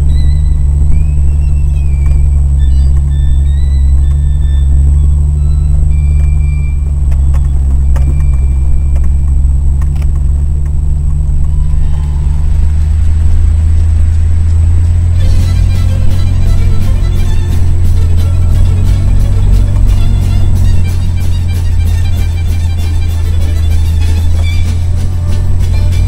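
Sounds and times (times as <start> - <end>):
off-road vehicle engine drone: 0.0 - 26.0.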